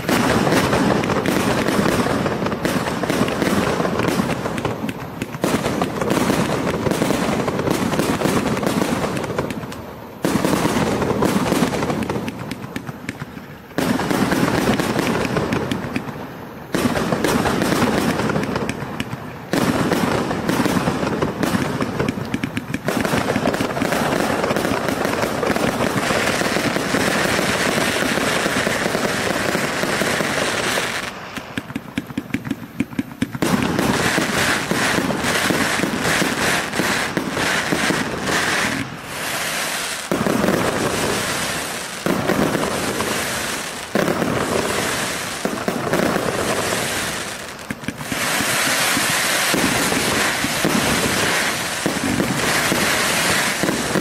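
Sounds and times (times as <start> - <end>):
fireworks launches and bursts: 0.0 - 54.0.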